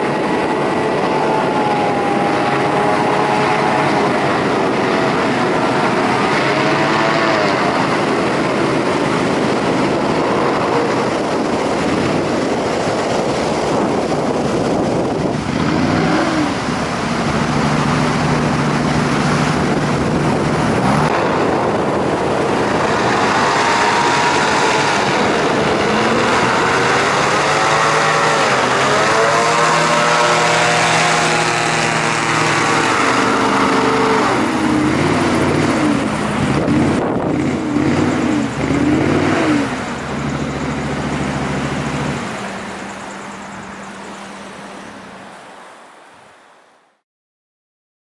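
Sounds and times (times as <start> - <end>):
hovercraft engine and fan: 0.0 - 46.6.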